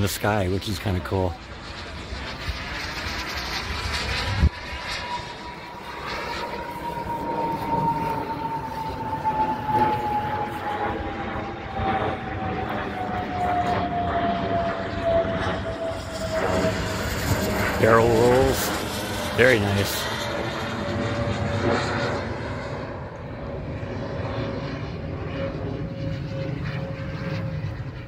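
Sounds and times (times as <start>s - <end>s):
model airplane engine whine: 0.0s - 28.0s.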